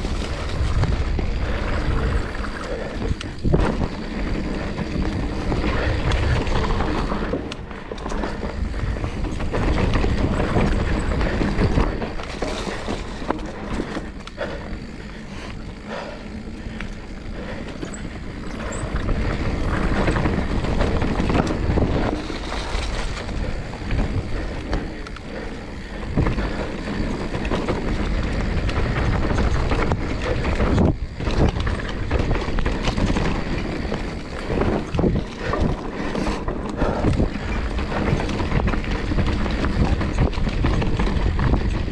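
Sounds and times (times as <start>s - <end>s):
bike knocking and rattling: 0.0s - 41.9s
bike tyre noise on dirt: 0.0s - 41.9s
wind buffeting microphone: 0.0s - 41.9s.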